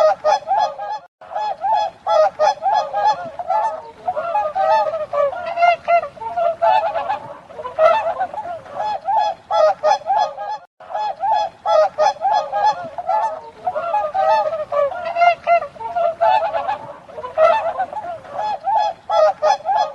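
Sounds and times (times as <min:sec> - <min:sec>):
swans honking: 0:00.0 - 0:19.9.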